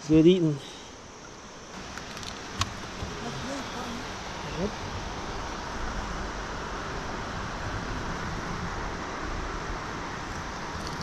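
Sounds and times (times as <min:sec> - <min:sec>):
river water rushing: 0:01.1 - 0:11.0.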